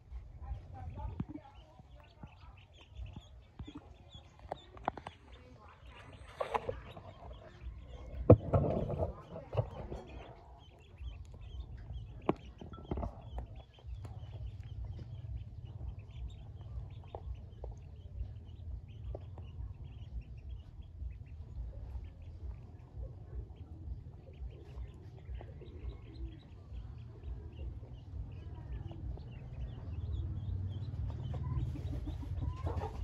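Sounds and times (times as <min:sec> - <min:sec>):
ducklings peeping: 0:00.0 - 0:33.0
low rumble: 0:05.9 - 0:33.0.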